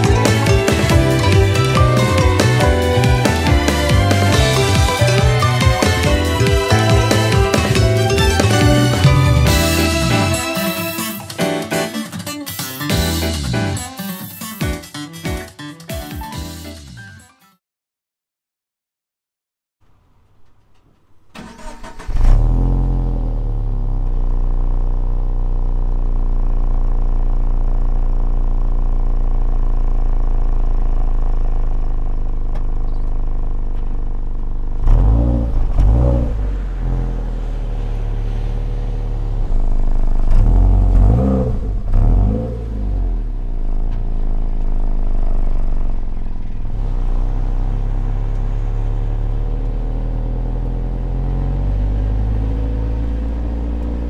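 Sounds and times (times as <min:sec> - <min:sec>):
car engine revving: 0:00.0 - 0:11.2, 0:21.3 - 0:54.0
car engine starting and idling: 0:00.0 - 0:11.8, 0:19.9 - 0:54.0.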